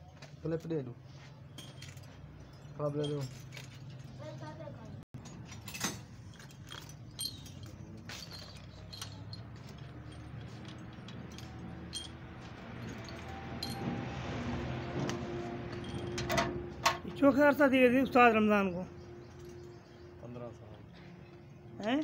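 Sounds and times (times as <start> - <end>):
metal tools clinking on engine: 1.4 - 15.1, 15.7 - 20.2.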